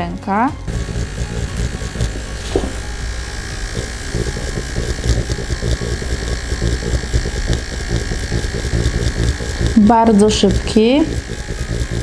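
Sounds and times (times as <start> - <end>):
makeup machine buzzing: 0.0 - 12.0.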